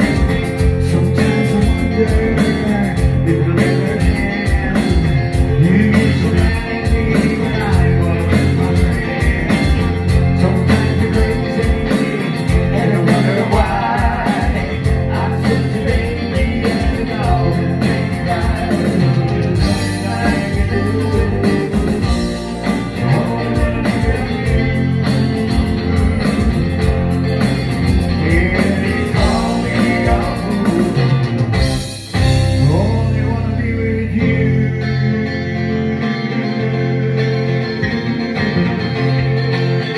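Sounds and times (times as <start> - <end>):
person singing: 0.0 - 27.0, 28.0 - 31.4, 32.4 - 38.2
electric bass: 0.0 - 39.9
electric guitar: 0.0 - 39.9.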